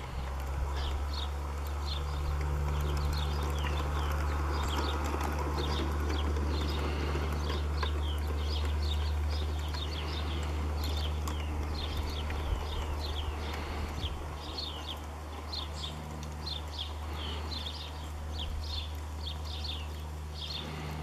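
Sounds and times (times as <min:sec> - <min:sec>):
birds chirping: 0:00.0 - 0:21.0
model tram humming and rattling: 0:00.0 - 0:21.0.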